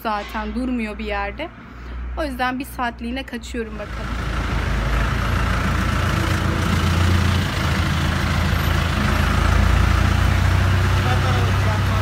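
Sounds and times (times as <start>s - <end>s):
city street traffic: 0.0s - 12.0s
minibus engine rumbling: 0.0s - 12.0s.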